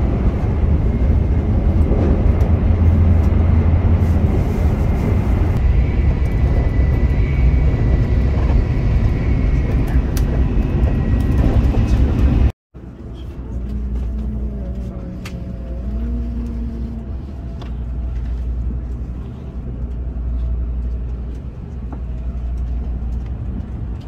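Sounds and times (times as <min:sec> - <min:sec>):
train cabin low rumble: 0:00.0 - 0:24.0.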